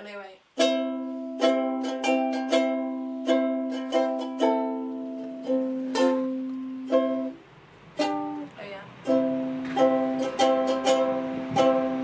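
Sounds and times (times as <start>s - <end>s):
ukulele music: 0.5s - 12.0s.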